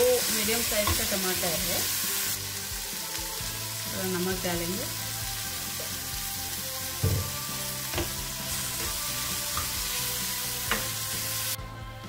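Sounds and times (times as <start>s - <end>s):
food sizzling in hot oil: 0.0s - 11.6s.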